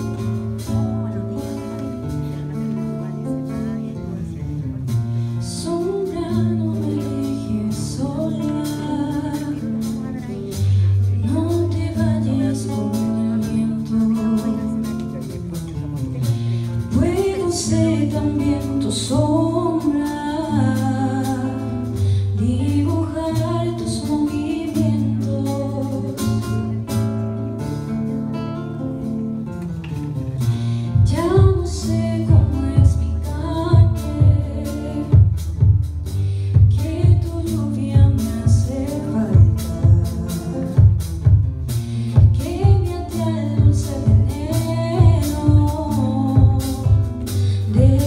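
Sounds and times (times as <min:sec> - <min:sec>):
woman singing: 0:00.0 - 0:04.5, 0:05.4 - 0:29.2, 0:30.8 - 0:48.0
fingerpicked classical guitar: 0:00.0 - 0:48.0.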